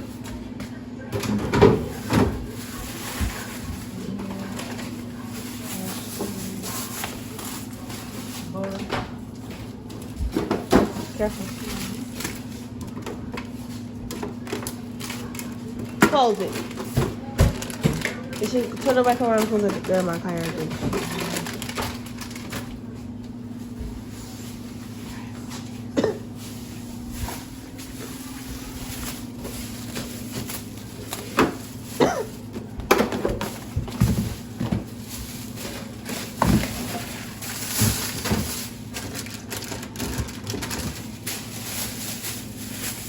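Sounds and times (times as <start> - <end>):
packages knocking and crinkling: 0.3 - 43.0.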